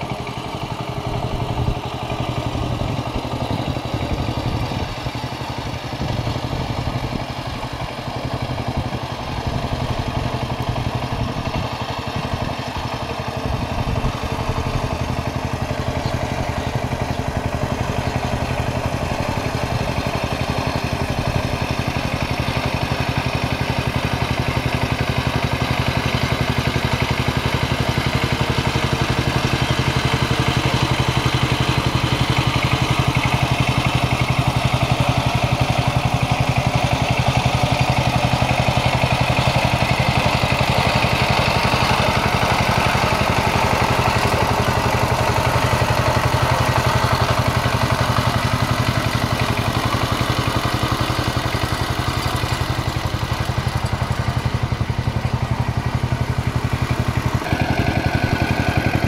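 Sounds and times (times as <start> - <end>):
diesel tiller engine chugging: 0.0 - 59.0.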